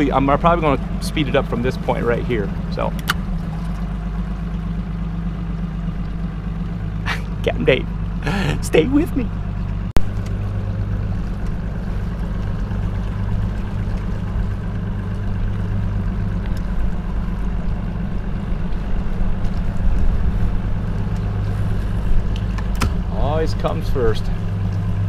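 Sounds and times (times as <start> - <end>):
outboard motor humming: 0.0 - 25.0.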